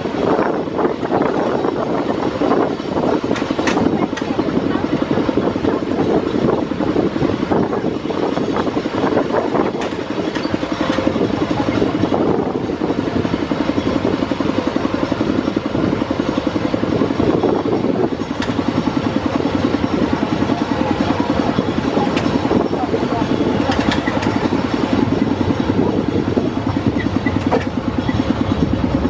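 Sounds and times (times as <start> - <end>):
tractor engine chugging: 0.0 - 29.0.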